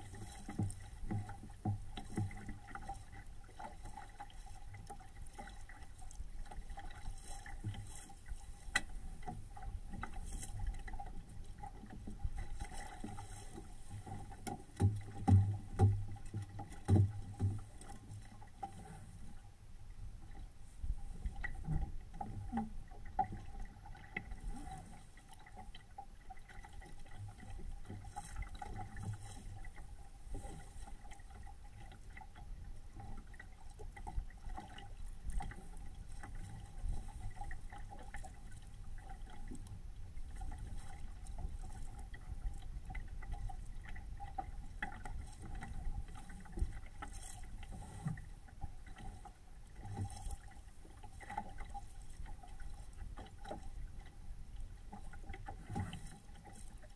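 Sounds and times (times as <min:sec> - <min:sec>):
water lapping against boat hull: 0:00.0 - 0:56.9.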